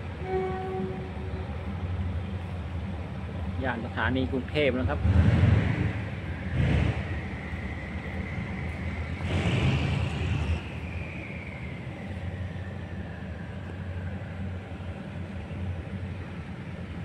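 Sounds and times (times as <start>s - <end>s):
diesel train engines idling: 0.0s - 17.0s.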